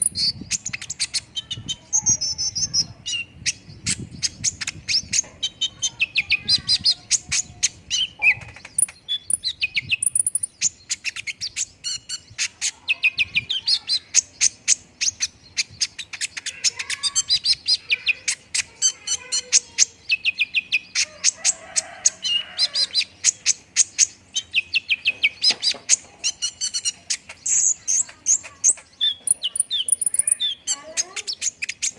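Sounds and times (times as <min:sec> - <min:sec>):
sunbird singing high chirps: 0:00.0 - 0:31.9.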